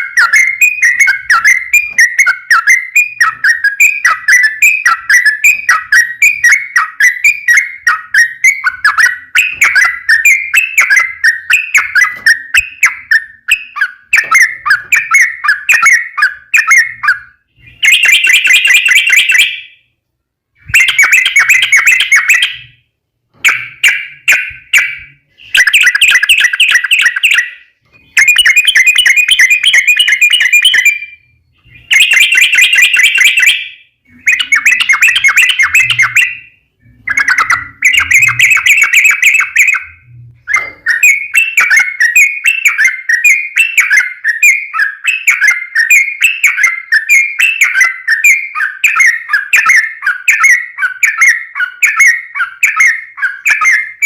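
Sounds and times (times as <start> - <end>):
bulbul singing: 0.0 - 19.9, 20.6 - 54.0.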